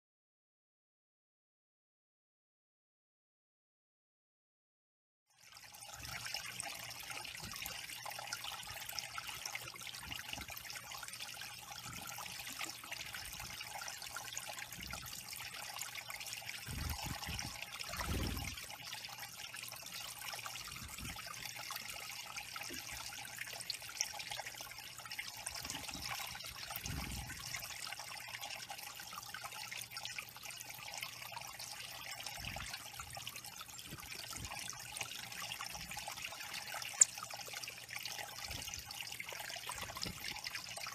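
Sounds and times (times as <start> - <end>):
water trickling down waterfall: 5.4 - 40.9.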